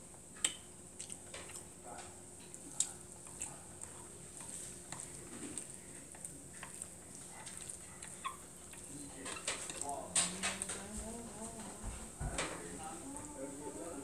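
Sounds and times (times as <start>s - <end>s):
quiet chewing: 0.3s - 14.0s.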